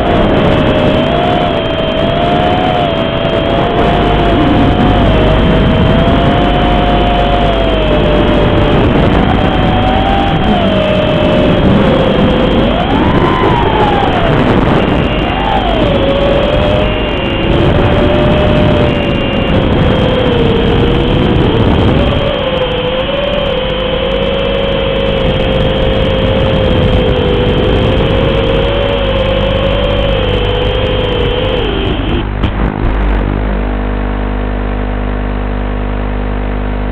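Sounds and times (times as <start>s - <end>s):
quadcopter motors buzzing: 0.0s - 33.8s.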